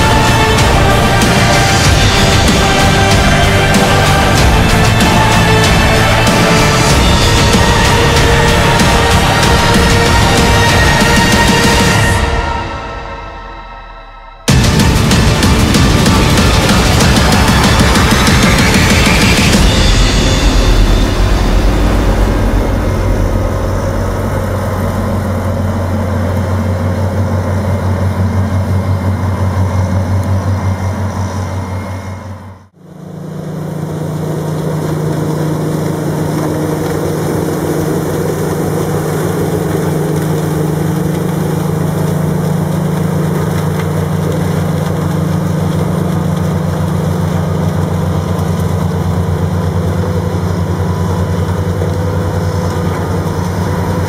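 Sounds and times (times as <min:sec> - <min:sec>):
diesel machinery engines running: 0:00.0 - 0:54.0
higher-pitched engine running: 0:00.0 - 0:54.0.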